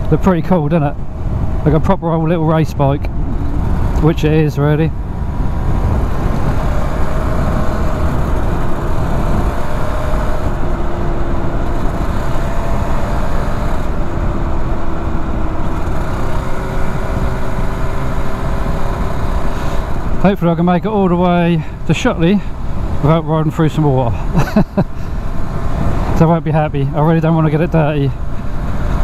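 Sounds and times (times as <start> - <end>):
motorcycle engine cruising: 0.0 - 29.0
wind rumble on microphone: 0.0 - 29.0.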